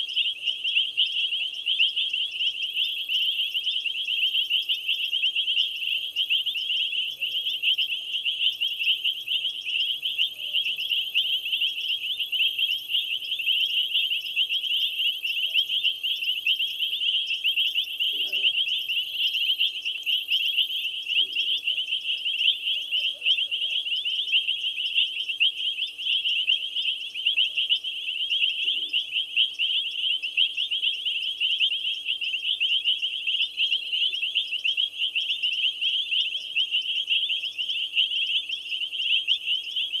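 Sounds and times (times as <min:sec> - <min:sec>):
crickets trilling: 0:00.0 - 0:40.0
higher pulsing insect call: 0:00.0 - 0:40.0.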